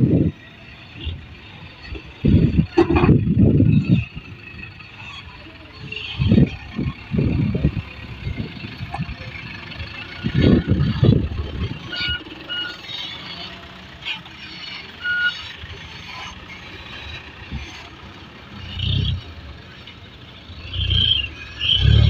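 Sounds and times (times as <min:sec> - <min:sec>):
dump truck diesel engine revving: 0:00.0 - 0:22.0.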